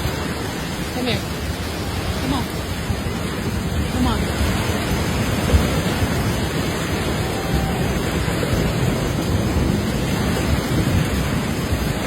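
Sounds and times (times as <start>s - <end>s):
flood water roaring: 0.0s - 12.0s.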